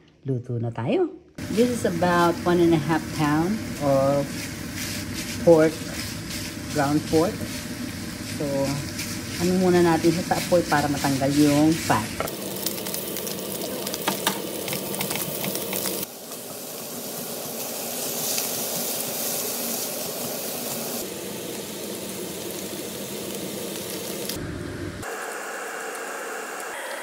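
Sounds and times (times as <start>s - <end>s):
meat sizzling in a frying pan: 1.4s - 24.4s.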